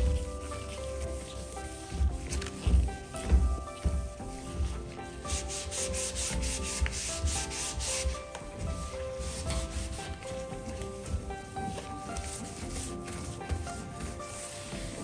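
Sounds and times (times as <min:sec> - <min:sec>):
background music with low beat: 0:00.0 - 0:15.0
cloth wiping shower tray: 0:00.0 - 0:15.0.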